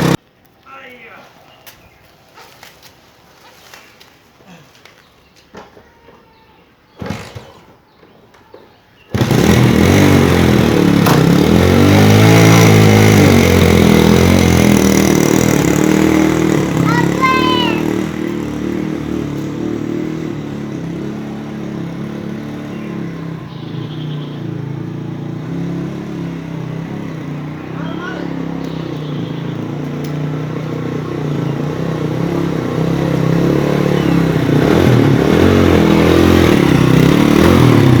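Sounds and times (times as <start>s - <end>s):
motorcycle engine starting and revving: 0.0s - 0.2s, 6.9s - 38.0s.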